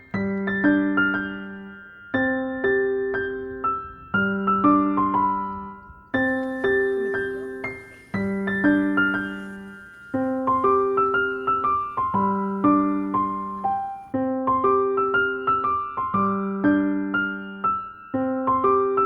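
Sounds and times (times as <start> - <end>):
gentle solo piano piece: 0.0 - 19.0.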